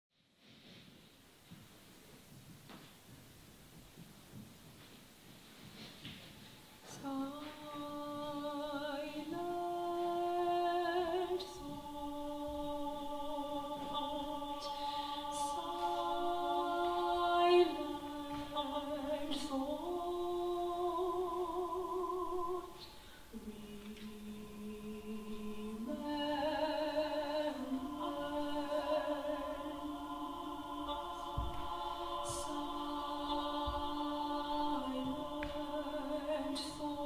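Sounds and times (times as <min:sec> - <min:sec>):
woman singing sustained notes: 0:06.8 - 0:37.0.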